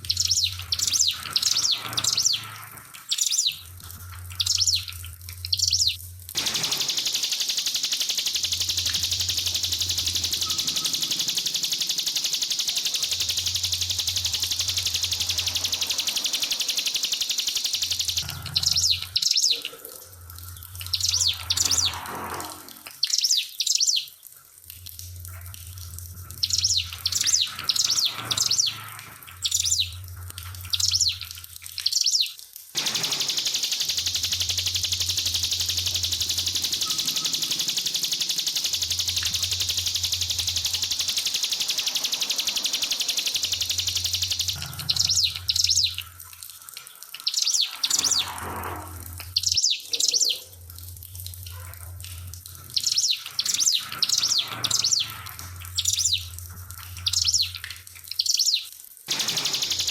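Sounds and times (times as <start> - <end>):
bird chirping and trilling: 0.0 - 20.0, 20.6 - 22.1, 23.0 - 24.2, 26.4 - 30.0, 30.6 - 46.1, 47.2 - 48.4, 49.2 - 50.5, 52.7 - 59.9
faint trickling water: 0.0 - 59.1.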